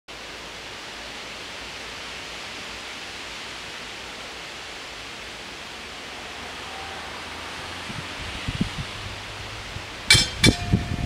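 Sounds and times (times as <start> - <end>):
outdoor background hiss: 0.1 - 11.0.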